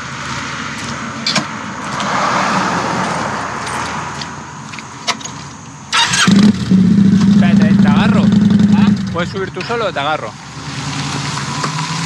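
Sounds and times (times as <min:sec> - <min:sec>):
vehicle passing: 0:00.6 - 0:12.0.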